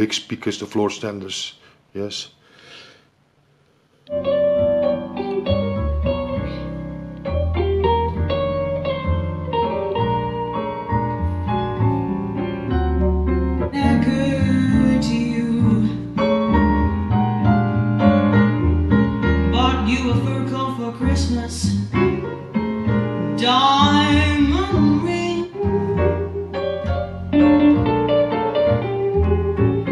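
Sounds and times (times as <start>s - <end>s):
piano music with singing: 4.1s - 29.9s.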